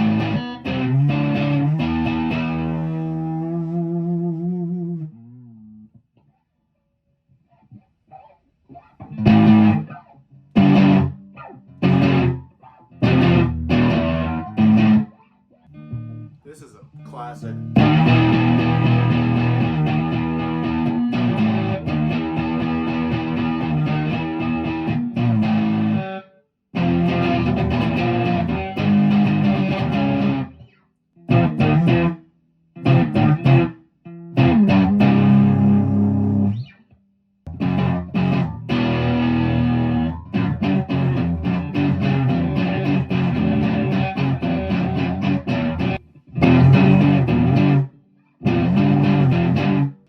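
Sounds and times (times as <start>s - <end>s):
distorted electric guitar: 0.0s - 3.1s, 8.2s - 16.4s, 17.5s - 32.2s, 32.8s - 36.8s, 37.5s - 50.0s.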